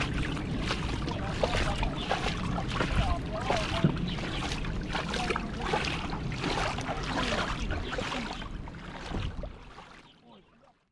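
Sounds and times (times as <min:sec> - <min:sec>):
wind rumble on microphone: 0:00.0 - 0:09.8
stream running over rocks: 0:00.0 - 0:10.5.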